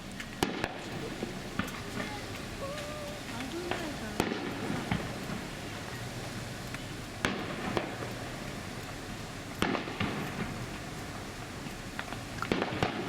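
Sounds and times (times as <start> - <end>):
fireworks bangs: 0.0 - 13.0
steady background noise: 0.0 - 13.0.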